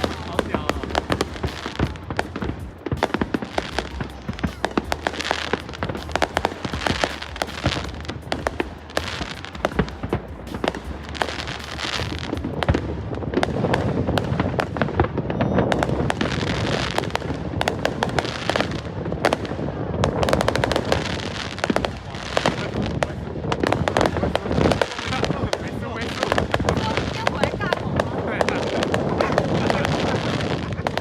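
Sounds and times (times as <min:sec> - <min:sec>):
fireworks cracking and popping: 0:00.0 - 0:31.0
fireworks crackle: 0:00.0 - 0:31.0
loud fireworks bangs: 0:00.0 - 0:31.0.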